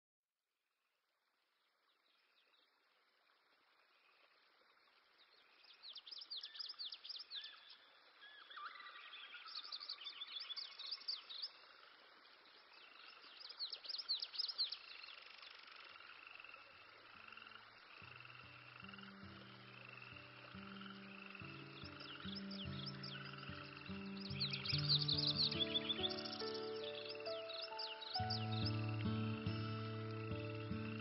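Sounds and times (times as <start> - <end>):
soft hiss: 1.6 - 31.0
birds chirping: 4.1 - 31.0.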